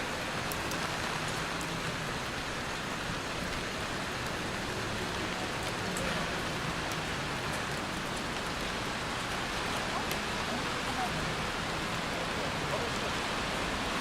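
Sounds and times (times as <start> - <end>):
rain on hard surfaces: 0.0 - 14.0.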